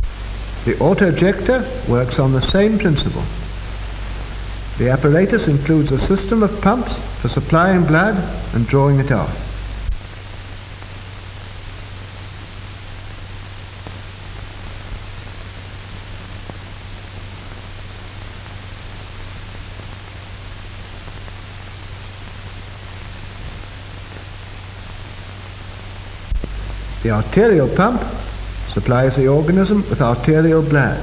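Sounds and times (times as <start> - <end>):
low hum: 0.0 - 21.5, 22.1 - 31.0
film soundtrack hiss: 0.0 - 31.0.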